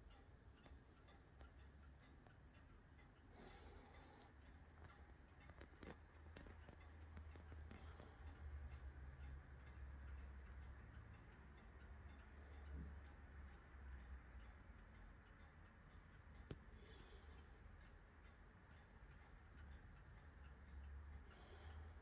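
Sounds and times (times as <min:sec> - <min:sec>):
clock ticking: 0:00.0 - 0:22.0.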